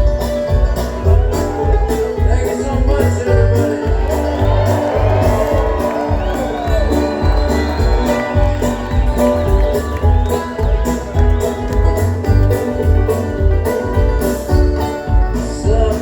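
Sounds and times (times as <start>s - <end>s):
bluegrass string band playing: 0.0s - 16.0s.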